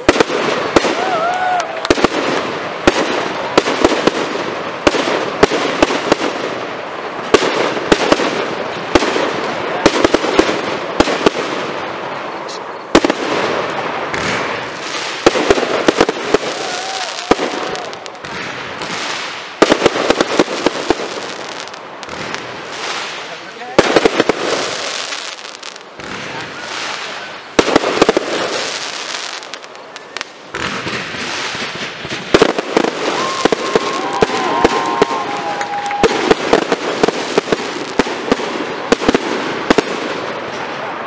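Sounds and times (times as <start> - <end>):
fireworks bursting: 0.0 - 41.0
fireworks crackle and rumble: 0.0 - 41.0.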